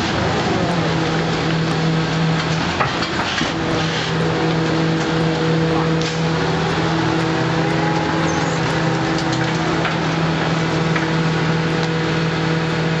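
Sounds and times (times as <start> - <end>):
garbage truck engine and compactor: 0.0 - 13.0.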